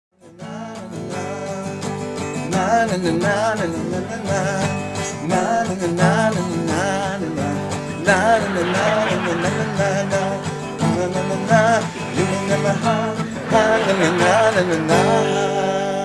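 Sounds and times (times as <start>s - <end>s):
acoustic guitar: 0.2s - 16.0s
person singing with vibrato: 0.2s - 16.0s.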